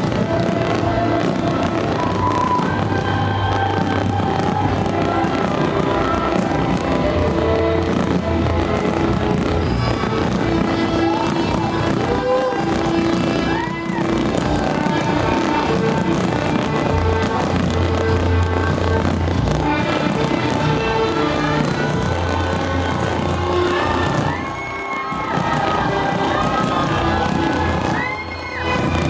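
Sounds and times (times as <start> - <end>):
fireworks cracking and banging: 0.0 - 29.0
loud show music: 0.0 - 29.0.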